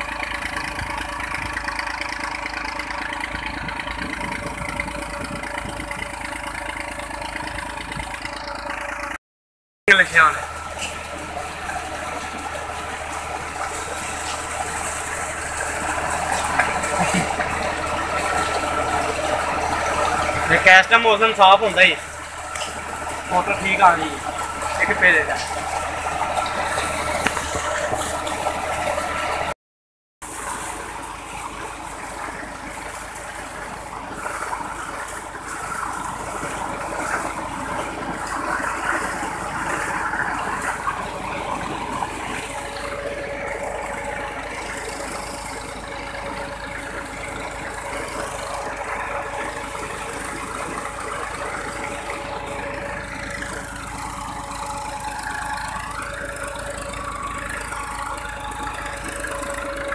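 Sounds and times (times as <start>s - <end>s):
pump engine running: 0.0s - 9.2s, 9.9s - 29.6s, 30.2s - 59.9s
water gushing from pipe: 0.0s - 9.2s, 9.9s - 29.6s, 30.2s - 59.9s.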